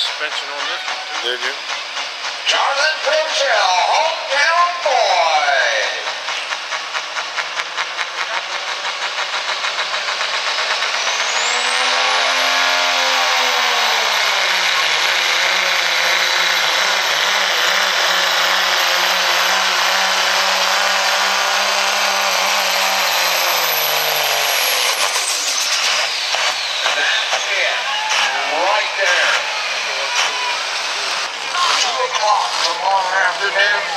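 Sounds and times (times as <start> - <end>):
diesel truck engine at full throttle: 0.0 - 33.9.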